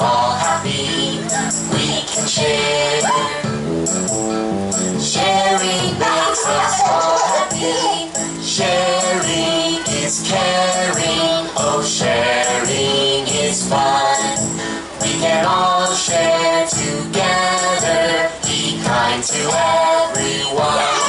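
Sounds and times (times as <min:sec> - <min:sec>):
voices singing: 0:00.0 - 0:03.6, 0:05.0 - 0:21.0.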